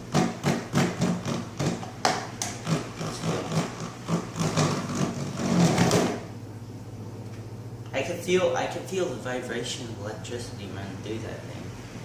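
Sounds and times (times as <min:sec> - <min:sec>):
fan motor hum: 0:00.0 - 0:12.0.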